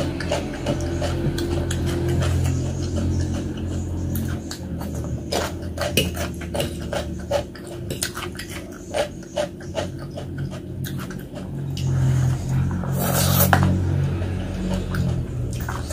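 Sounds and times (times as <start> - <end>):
wet chewing mouth sounds: 0.0 - 15.9.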